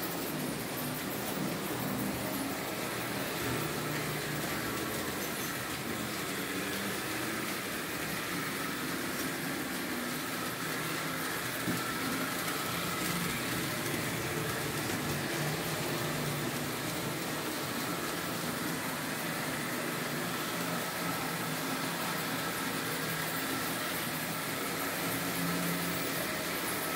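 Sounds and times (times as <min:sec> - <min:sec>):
model train motors humming: 0:00.0 - 0:26.9
wheels rolling on rails: 0:00.0 - 0:26.9.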